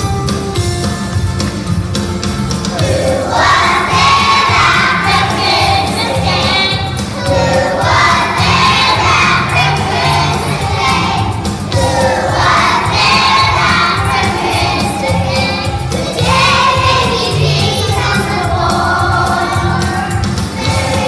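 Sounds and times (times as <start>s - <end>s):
instrumental accompaniment with beat: 0.0s - 21.0s
children singing: 2.7s - 21.0s.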